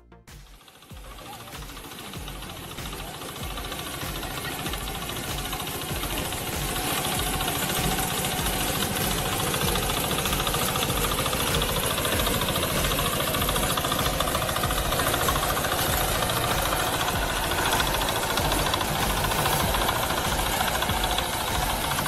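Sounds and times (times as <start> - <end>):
small engine running under load: 0.4 - 22.0
fast even knocking: 0.9 - 22.0.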